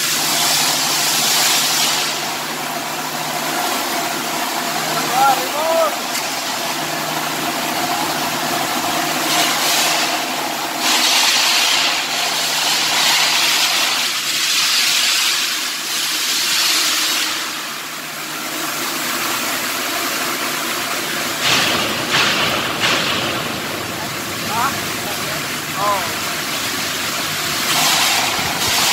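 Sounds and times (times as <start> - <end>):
low machine hum: 0.0 - 28.9
welding arc crackling and hissing: 0.0 - 28.9.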